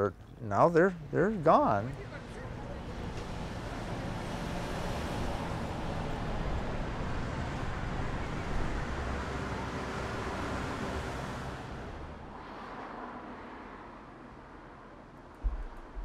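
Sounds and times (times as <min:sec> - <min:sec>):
cars driving past: 0:00.7 - 0:16.0.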